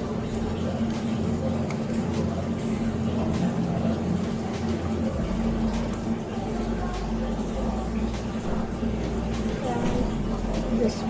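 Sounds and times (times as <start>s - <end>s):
microwave oven hum: 0.0s - 11.0s.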